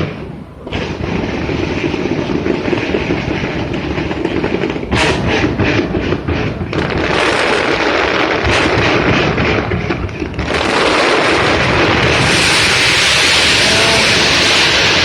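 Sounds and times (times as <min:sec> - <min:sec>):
fireworks cracking and banging: 0:00.0 - 0:15.0.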